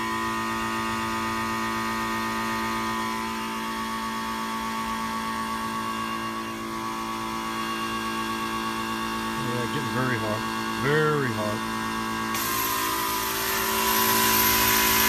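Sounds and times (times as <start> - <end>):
compressor humming: 0.5 - 15.0.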